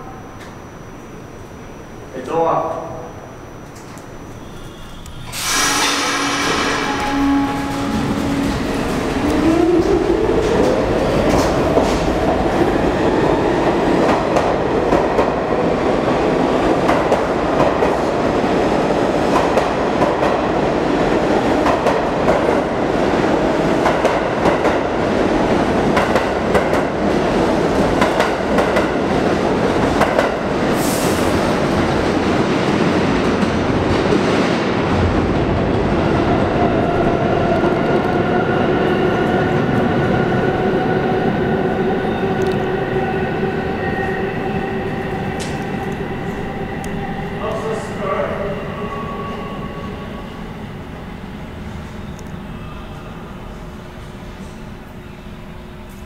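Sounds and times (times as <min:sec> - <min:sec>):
train rumble: 0:00.0 - 0:55.0
subway train motors whining: 0:00.0 - 0:56.0.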